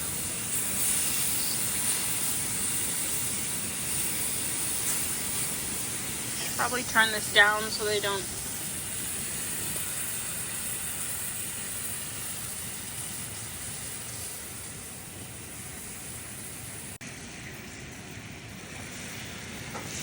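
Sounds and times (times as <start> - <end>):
donuts sizzling in oil: 0.0 - 20.0.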